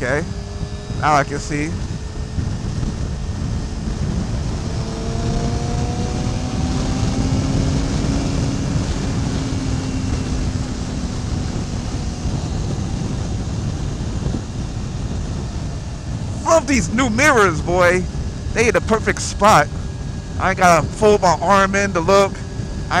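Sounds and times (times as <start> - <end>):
motorcycle engine running: 0.0 - 23.0
wind rush on microphone: 0.0 - 23.0.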